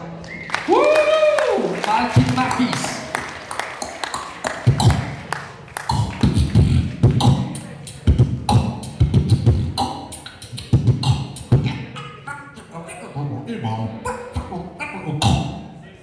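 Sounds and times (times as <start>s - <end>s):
beatboxing over a pa: 2.0s - 15.8s.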